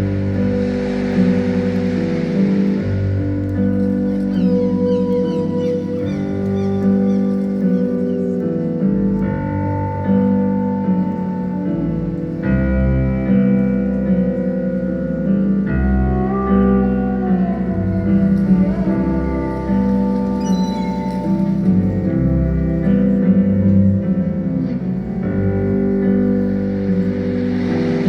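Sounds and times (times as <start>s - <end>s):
bass: 0.0s - 28.0s
gliding lead line: 0.0s - 28.0s
piano and keyboard chords: 0.0s - 28.0s.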